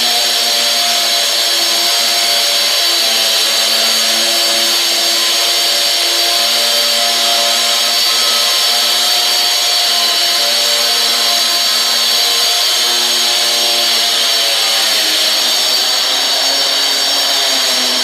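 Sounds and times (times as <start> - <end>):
wall chaser high-pitched whine: 0.0 - 18.0.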